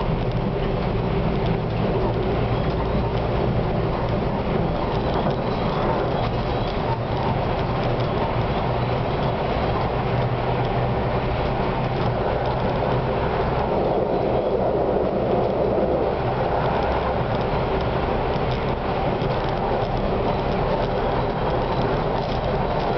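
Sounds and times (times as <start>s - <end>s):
tram motors droning: 0.0s - 22.9s
wheels rolling on rails: 0.0s - 22.9s.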